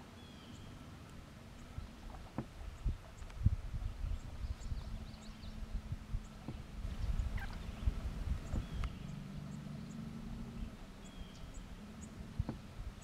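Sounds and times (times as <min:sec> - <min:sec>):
low steady hum: 0:00.0 - 0:13.0
low rumble: 0:00.6 - 0:13.0.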